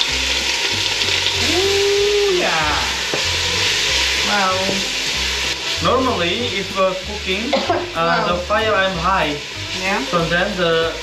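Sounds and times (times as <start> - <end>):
spice paste sizzling in oil: 0.0 - 11.0.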